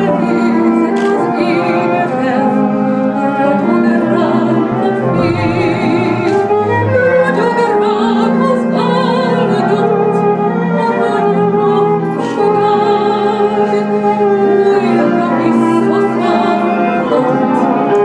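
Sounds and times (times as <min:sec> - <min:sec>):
string accompaniment: 0:00.0 - 0:18.0
woman singing operatically: 0:00.0 - 0:18.0.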